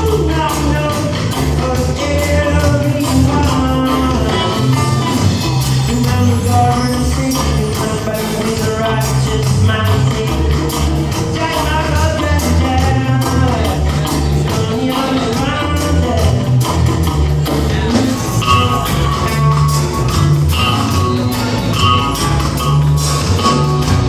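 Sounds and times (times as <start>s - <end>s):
band music with bass line: 0.0s - 24.0s.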